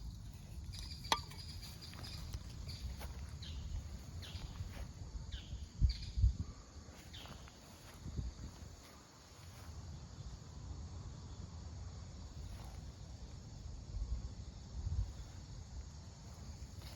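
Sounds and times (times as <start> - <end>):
crickets chirping faintly: 0.0 - 16.9.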